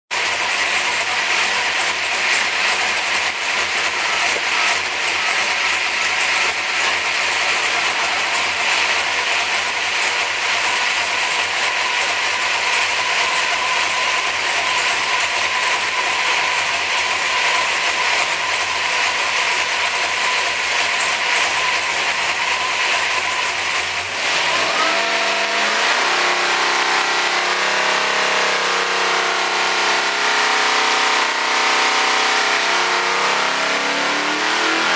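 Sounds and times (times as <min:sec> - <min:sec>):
race engine running loud: 0:00.1 - 0:34.9.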